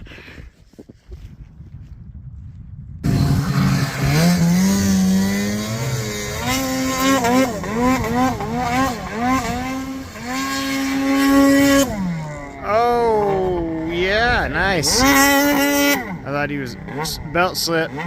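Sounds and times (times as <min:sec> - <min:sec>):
snowmobile engine revving: 0:03.0 - 0:18.0.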